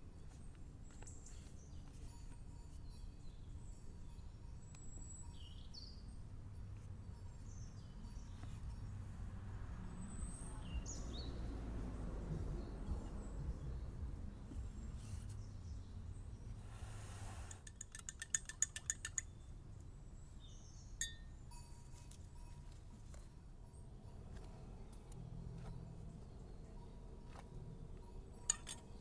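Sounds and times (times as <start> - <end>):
faint outdoor rumble: 0.0 - 29.0.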